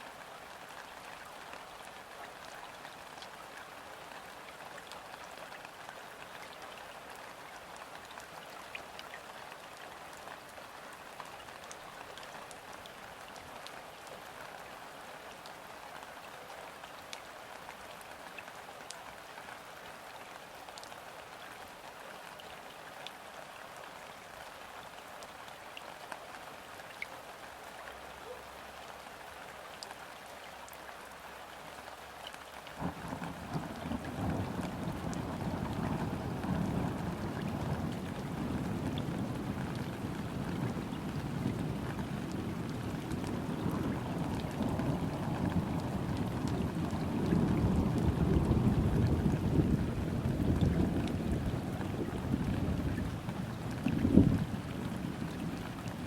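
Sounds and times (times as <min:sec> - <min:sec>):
gentle rain on river surface: 0:00.0 - 0:56.0.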